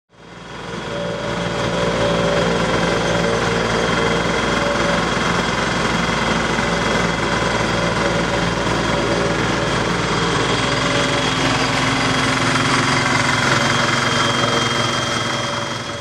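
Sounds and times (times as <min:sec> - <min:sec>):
construction machinery engine running: 0:00.1 - 0:16.0.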